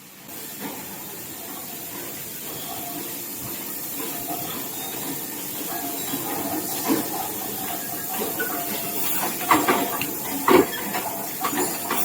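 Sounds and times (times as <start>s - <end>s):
steady workshop hiss: 0.0s - 12.0s.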